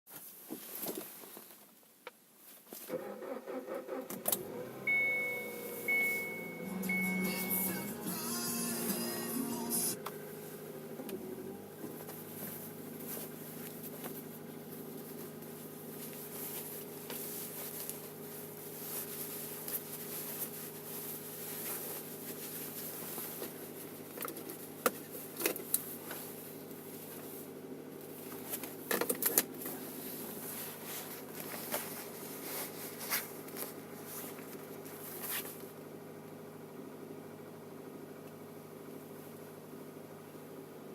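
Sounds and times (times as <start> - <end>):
car engine idling: 3.2 - 40.9.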